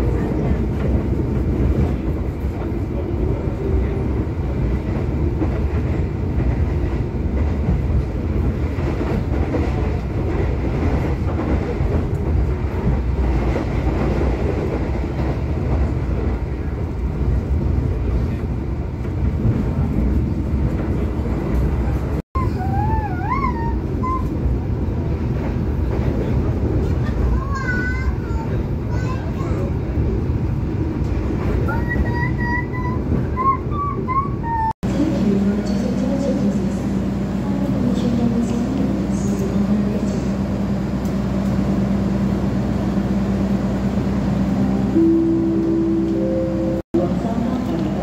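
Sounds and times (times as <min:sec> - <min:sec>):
train rumble and rail noise: 0:00.0 - 0:48.0.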